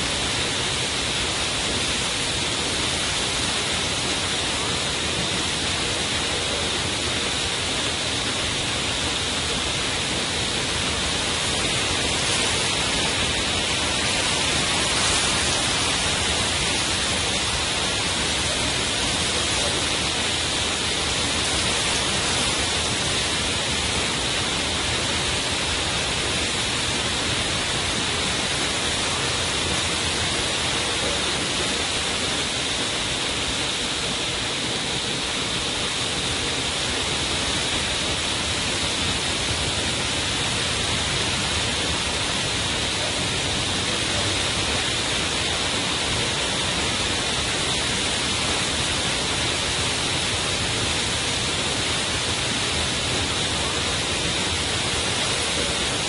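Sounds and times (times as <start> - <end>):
waterfall pouring into pool: 0.0 - 56.0.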